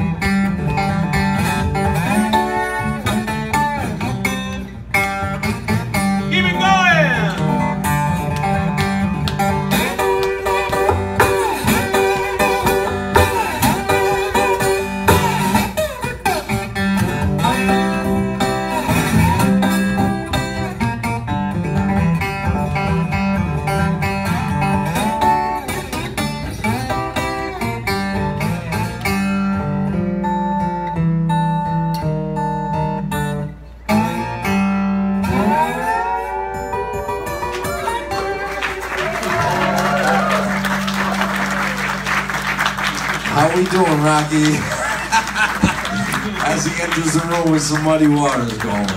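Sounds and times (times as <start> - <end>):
slide acoustic guitar blues: 0.0 - 48.9.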